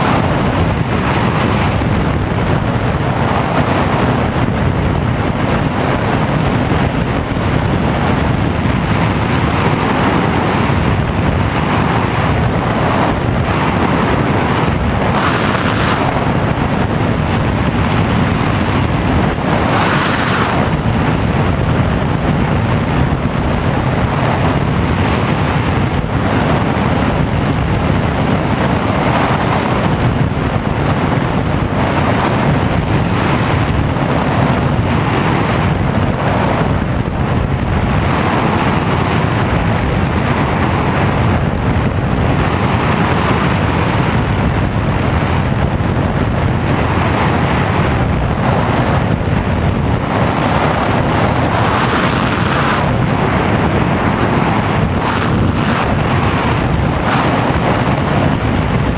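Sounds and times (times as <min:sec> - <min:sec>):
rushing wind noise: 0:00.0 - 0:58.9.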